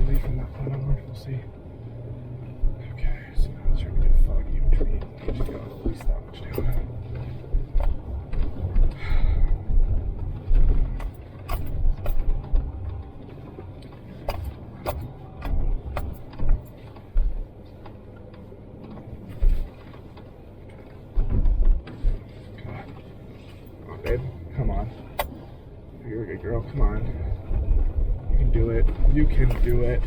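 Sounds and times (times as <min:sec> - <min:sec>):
truck engine and tyres rumbling in snow: 0:00.0 - 0:30.0.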